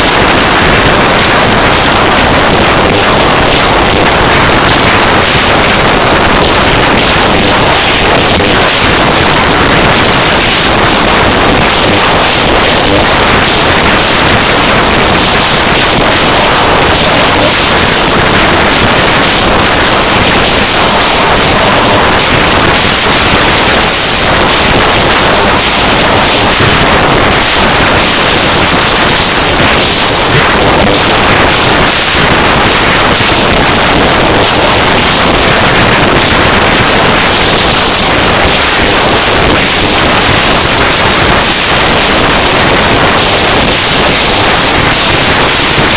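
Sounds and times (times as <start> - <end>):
noise music wall of hiss: 0.0 - 45.9.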